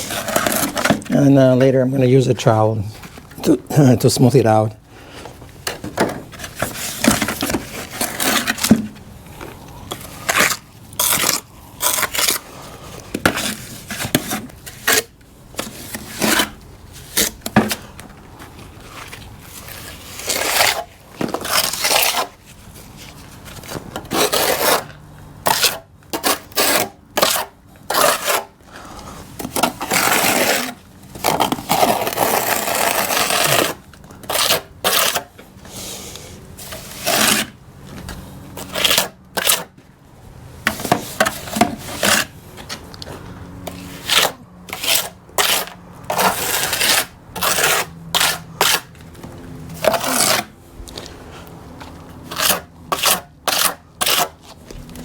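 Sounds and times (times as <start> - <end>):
trowel scraping cement: 0.0 - 1.8, 6.2 - 9.0, 9.9 - 17.9, 18.7 - 37.6, 38.2 - 39.8, 40.6 - 42.9, 43.6 - 49.0, 49.7 - 55.0.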